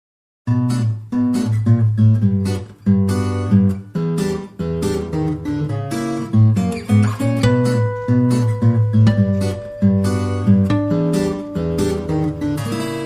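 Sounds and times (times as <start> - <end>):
acoustic guitar strumming: 0.5 - 13.0.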